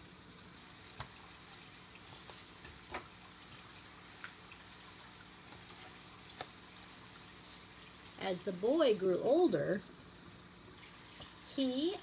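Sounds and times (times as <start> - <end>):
aquarium filter trickling: 0.0 - 12.0.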